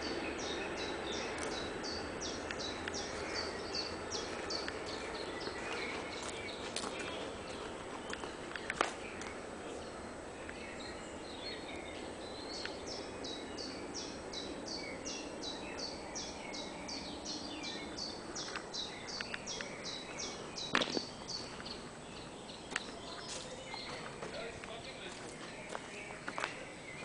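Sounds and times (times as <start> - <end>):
background hiss: 0.0 - 27.0
songbird singing: 0.0 - 27.0.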